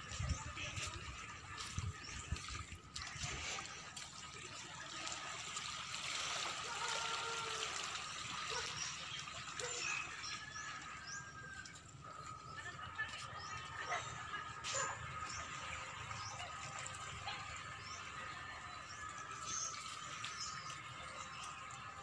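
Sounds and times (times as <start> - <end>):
water trickling: 0.0 - 22.0.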